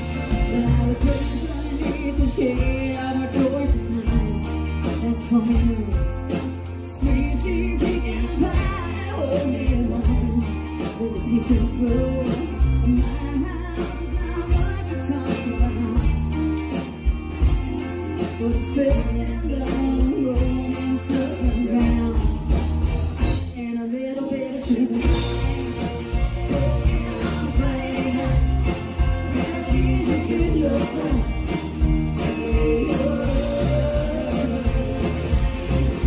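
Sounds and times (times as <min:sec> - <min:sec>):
live country band playing: 0:00.0 - 0:36.0.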